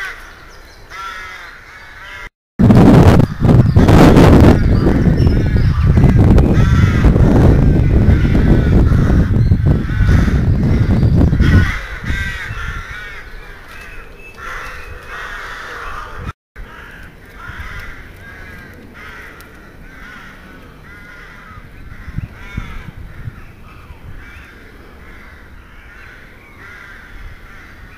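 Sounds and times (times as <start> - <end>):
crows cawing: 0.0 - 2.3, 4.6 - 27.9.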